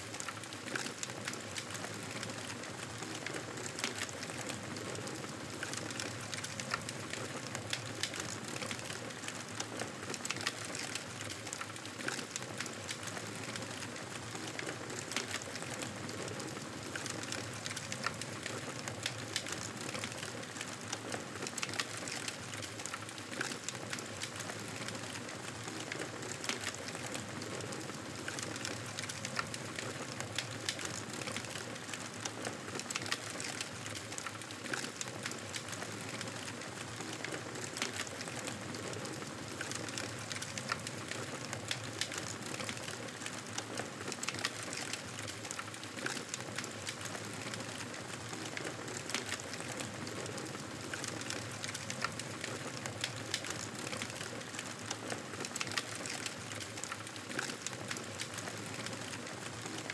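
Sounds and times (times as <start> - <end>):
campfire wood crackling and popping: 0.0 - 59.9.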